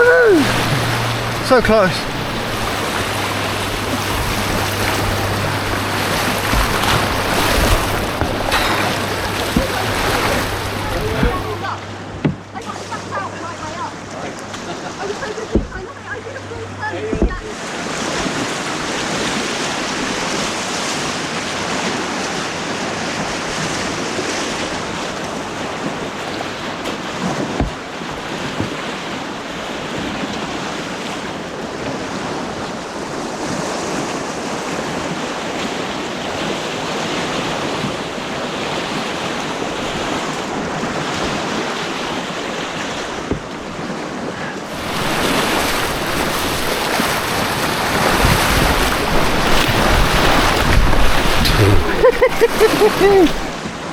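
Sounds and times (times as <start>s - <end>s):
rushing white water: 0.0s - 53.9s.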